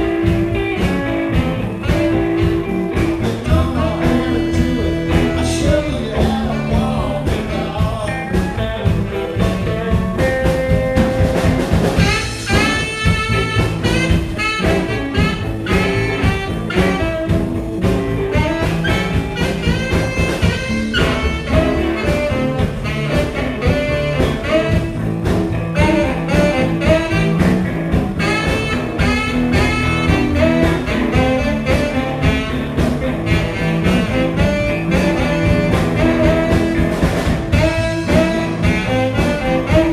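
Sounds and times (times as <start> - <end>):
blues band playing: 0.0 - 39.9
saxophone lead: 0.0 - 39.9.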